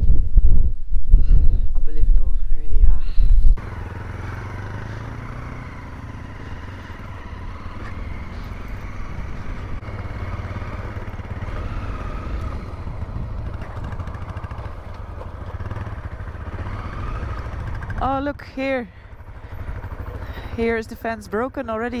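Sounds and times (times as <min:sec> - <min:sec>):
motorcycle engine running: 0:03.0 - 0:22.0.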